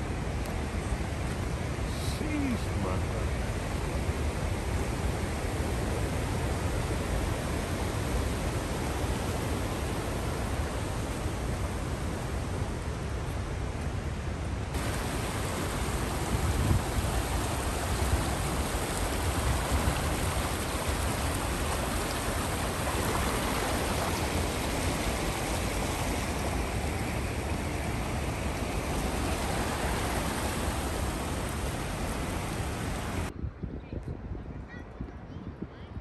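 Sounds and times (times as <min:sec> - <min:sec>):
creek rushing over rocks: 0:00.0 - 0:12.9, 0:14.7 - 0:33.3.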